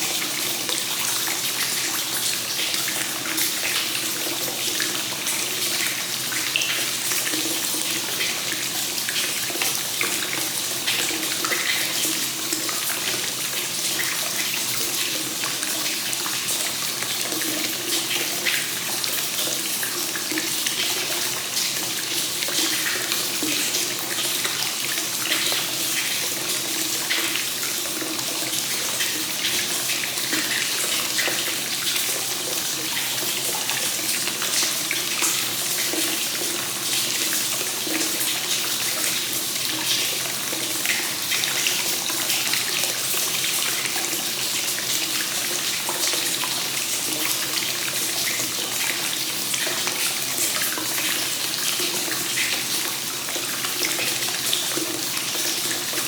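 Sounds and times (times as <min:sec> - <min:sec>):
water pouring into bath: 0:00.0 - 0:56.0.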